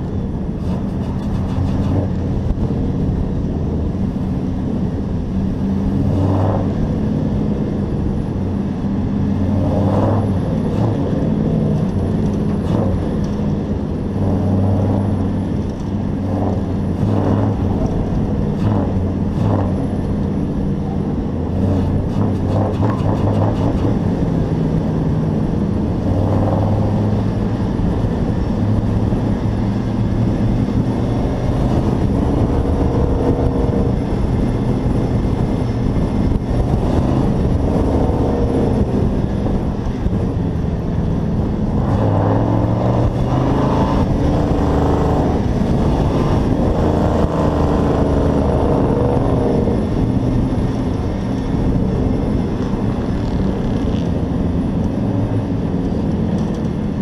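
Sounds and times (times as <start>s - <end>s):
race truck engine: 0.0s - 57.0s
wind and road noise: 0.0s - 57.0s.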